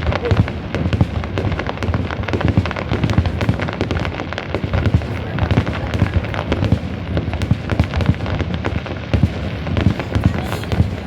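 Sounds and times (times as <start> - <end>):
fireworks bangs and crackles: 0.0 - 11.0
heavy firework booms: 0.0 - 11.0.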